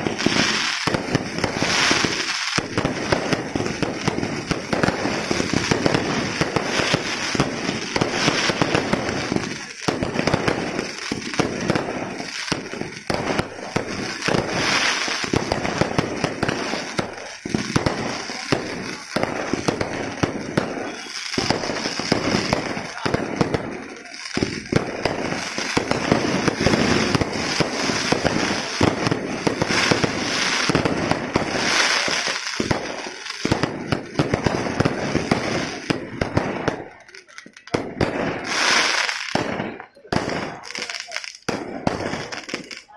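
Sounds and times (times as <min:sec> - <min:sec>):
fireworks bangs and crackling: 0:00.0 - 0:42.9
hissing and whistling sparks: 0:00.0 - 0:42.9.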